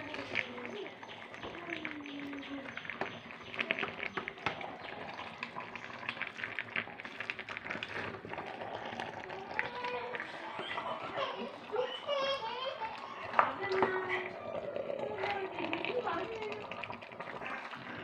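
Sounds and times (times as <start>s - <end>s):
gravy bubbling in a pot: 0.0s - 18.0s.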